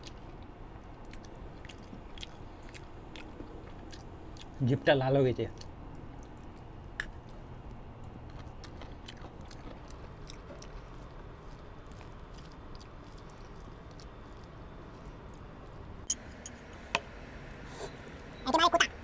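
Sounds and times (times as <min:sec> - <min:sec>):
person chewing food: 0:00.0 - 0:04.6, 0:05.5 - 0:16.8
low background rumble: 0:00.0 - 0:19.0.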